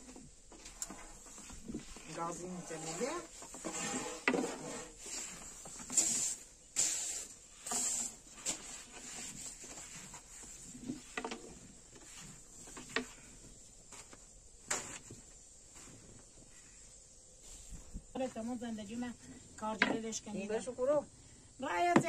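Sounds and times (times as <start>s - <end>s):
rolling pin swishing over dough: 0.0s - 18.0s.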